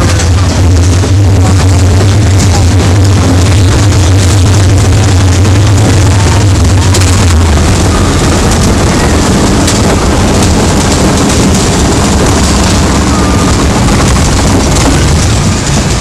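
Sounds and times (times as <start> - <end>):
roller coaster car rumbling on track: 0.0 - 16.0
wind buffeting microphone: 0.0 - 16.0.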